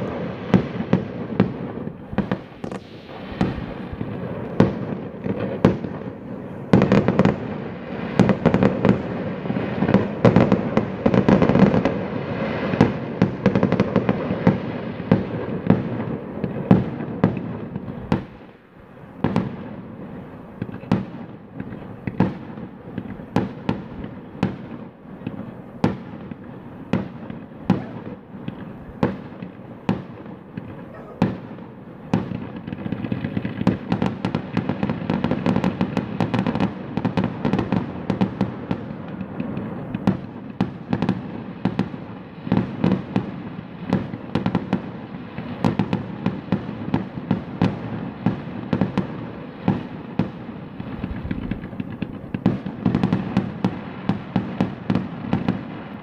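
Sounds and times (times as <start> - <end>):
fireworks bangs: 0.0 - 56.0
fireworks crackle: 0.0 - 56.0.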